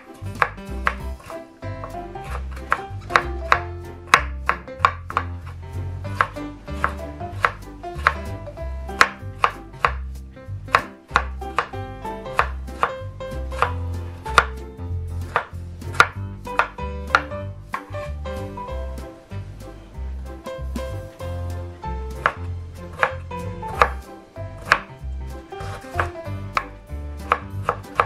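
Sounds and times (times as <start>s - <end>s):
knife chopping on wooden board: 0.0s - 18.6s, 22.1s - 28.0s.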